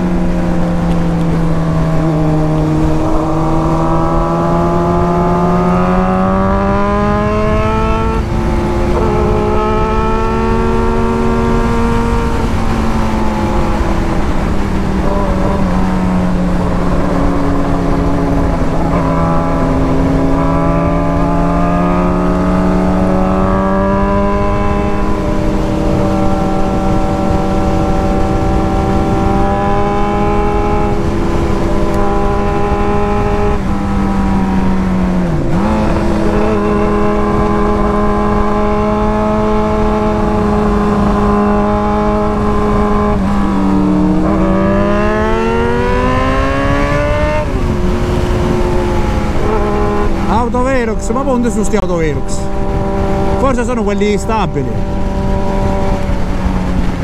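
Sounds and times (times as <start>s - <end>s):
motorcycle engine accelerating: 0.0s - 57.0s
wind on microphone: 0.0s - 57.0s.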